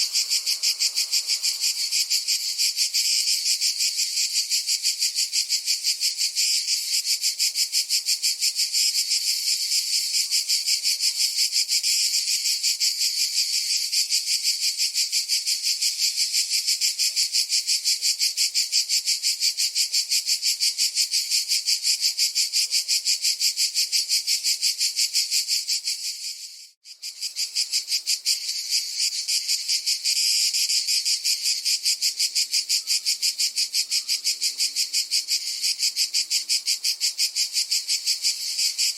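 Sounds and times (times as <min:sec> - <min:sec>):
cicada chorus buzzing: 0:00.0 - 0:38.9.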